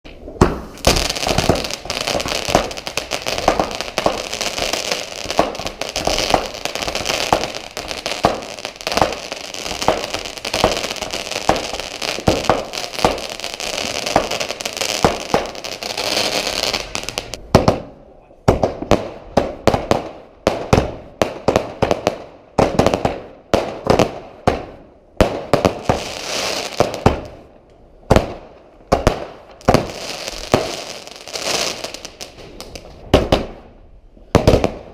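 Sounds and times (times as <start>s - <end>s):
fireworks crackling and banging: 0.0s - 34.9s.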